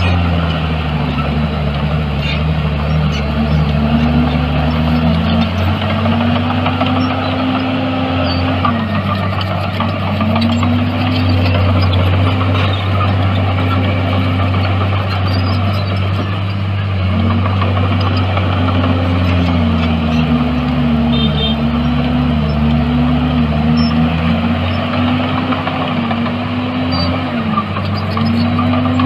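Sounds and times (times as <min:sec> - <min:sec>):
bulldozer diesel engine: 0:00.0 - 0:29.0
second engine: 0:00.0 - 0:29.0.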